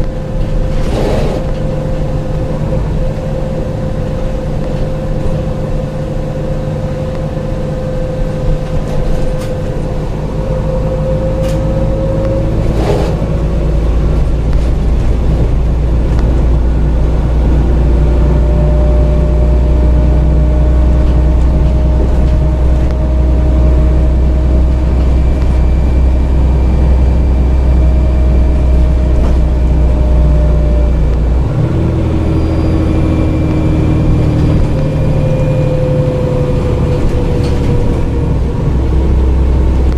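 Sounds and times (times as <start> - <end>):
bus engine rumble: 0.0 - 39.9
steady whine: 0.0 - 39.9.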